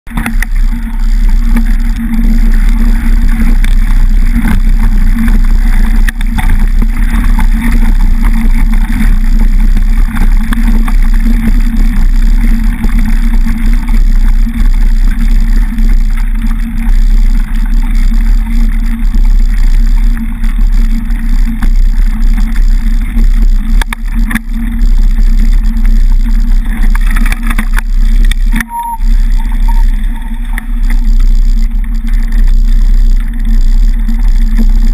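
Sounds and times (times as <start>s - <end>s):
bike tyres rolling on gravel: 0.1s - 34.9s
wind buffeting microphone: 0.1s - 34.9s.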